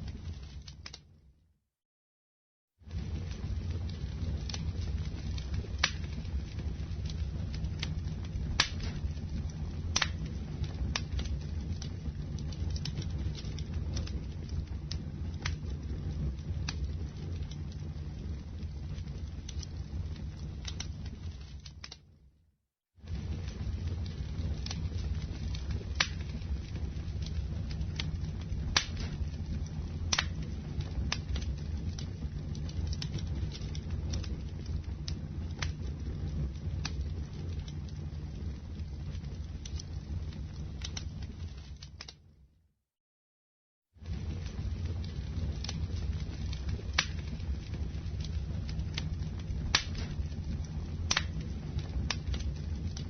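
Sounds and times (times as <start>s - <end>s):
wood crackling and popping: 0.0s - 1.2s, 2.8s - 22.2s, 23.0s - 42.4s, 44.0s - 53.0s
campfire flames rumbling: 0.0s - 1.3s, 2.7s - 22.3s, 22.9s - 42.5s, 43.9s - 53.0s.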